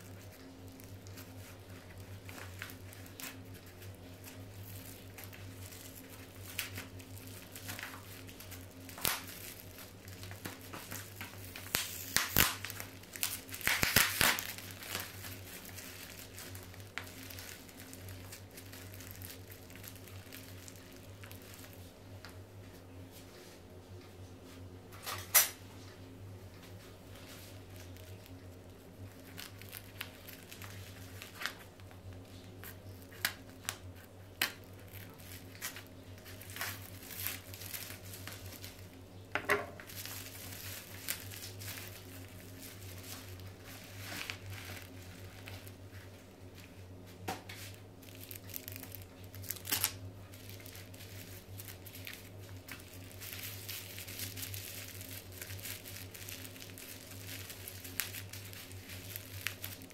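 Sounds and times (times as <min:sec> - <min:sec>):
plastic packaging crinkling: 0:00.0 - 0:22.4, 0:26.6 - 0:59.9.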